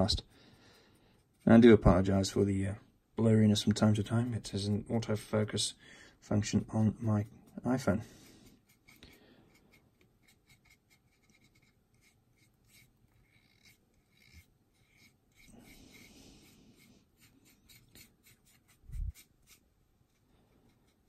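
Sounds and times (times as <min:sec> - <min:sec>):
paintbrush scratchy strokes: 0:00.0 - 0:02.5, 0:06.2 - 0:21.0.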